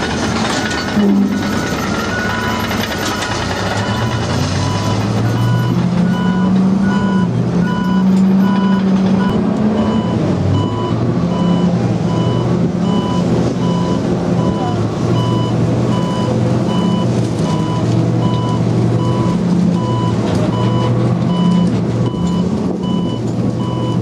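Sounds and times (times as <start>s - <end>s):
heavy vehicle engine hum: 0.0s - 24.0s
reversing alarm beeps: 0.7s - 24.0s.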